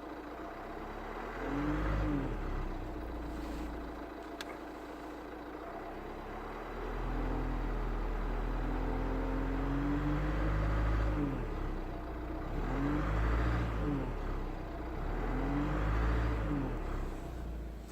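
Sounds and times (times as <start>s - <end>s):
diesel engine revving: 0.0s - 17.9s.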